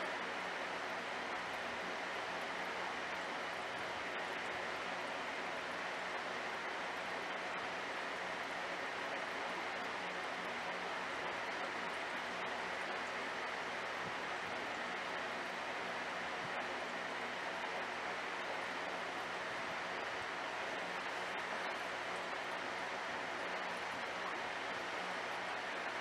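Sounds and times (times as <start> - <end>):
aquarium water flow hiss: 0.0 - 26.0
low mechanical hum: 0.0 - 26.0.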